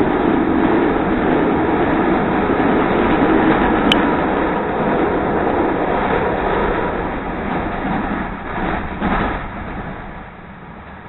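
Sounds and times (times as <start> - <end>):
train wheel and track noise: 0.0 - 11.0.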